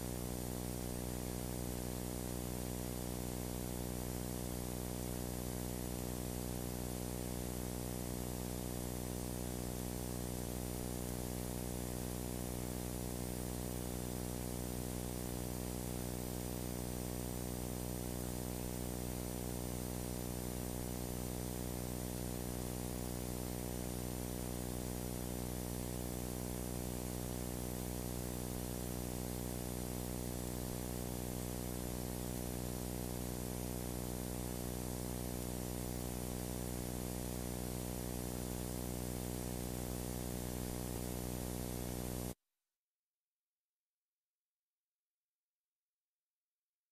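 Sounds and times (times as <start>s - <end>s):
mains hum: 0.0s - 42.4s.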